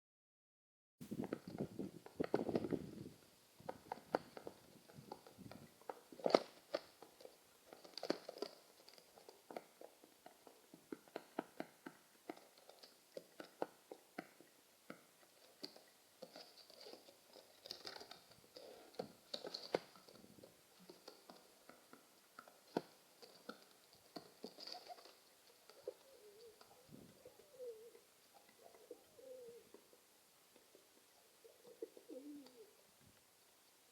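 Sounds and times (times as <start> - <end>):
pigeons tapping and scratching: 1.2 - 3.0, 3.6 - 32.7.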